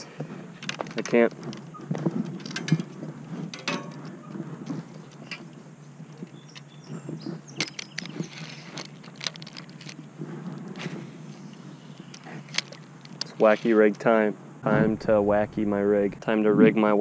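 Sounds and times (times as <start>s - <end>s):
fishing gear clicks and rattles: 0.0s - 14.1s.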